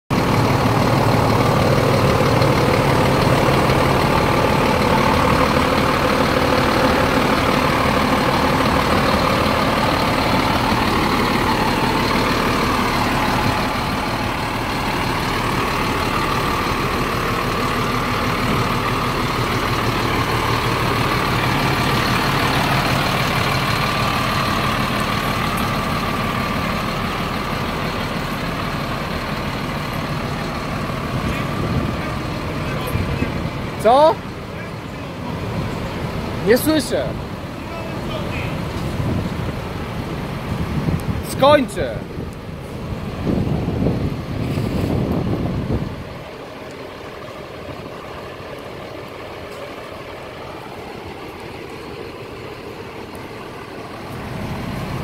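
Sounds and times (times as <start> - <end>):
diesel engine idling: 0.1 - 55.0.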